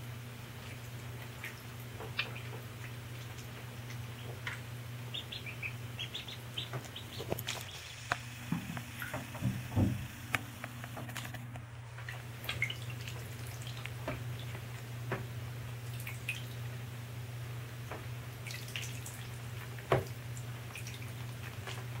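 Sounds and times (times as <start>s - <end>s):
ducklings splashing in water: 0.4s - 10.0s, 12.0s - 16.8s, 17.8s - 22.0s.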